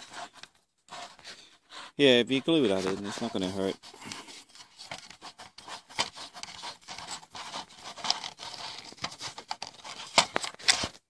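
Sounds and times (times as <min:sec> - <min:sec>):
fingers rubbing on camera: 0:00.0 - 0:11.0.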